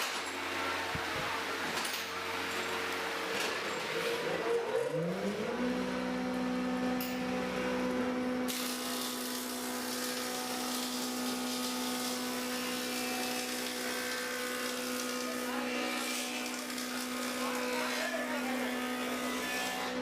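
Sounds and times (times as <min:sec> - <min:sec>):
planer motor humming: 0:00.6 - 0:20.0.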